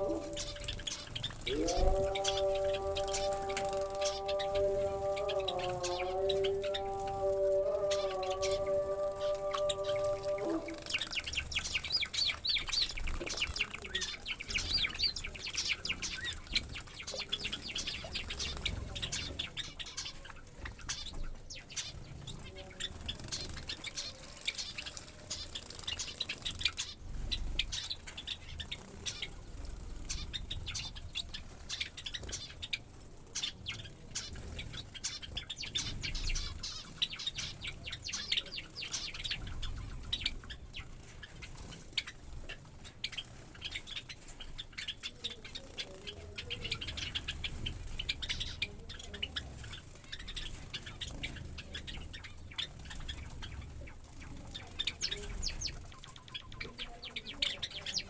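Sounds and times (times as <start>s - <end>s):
small birds chirping: 0.0s - 58.0s
wings fluttering and splashing: 0.0s - 58.0s.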